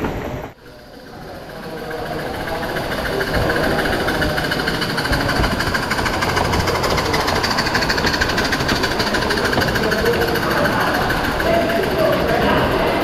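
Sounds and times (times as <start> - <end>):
steam locomotive exhaust chuffing: 0.0 - 13.0.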